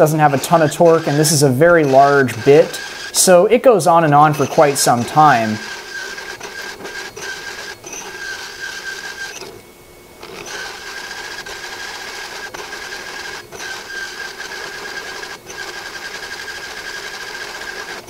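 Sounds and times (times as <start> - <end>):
drill press grinding steel: 0.0 - 9.6, 10.2 - 18.0.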